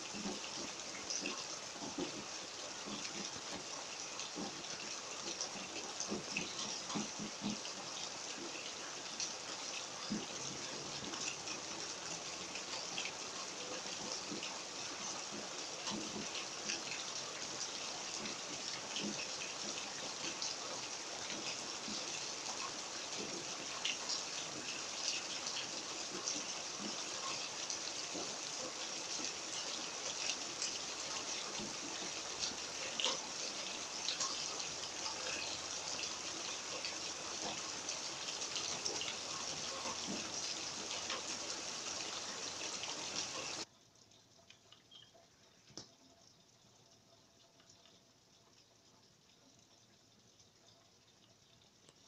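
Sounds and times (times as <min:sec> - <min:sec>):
rain hissing: 0:00.0 - 0:43.7.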